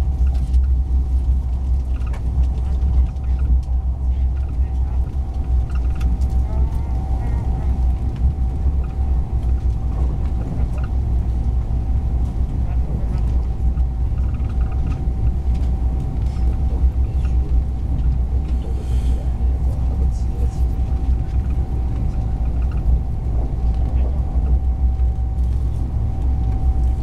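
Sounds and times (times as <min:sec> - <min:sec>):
thin constant whine: 0:00.0 - 0:27.0
train rumble: 0:00.0 - 0:27.0.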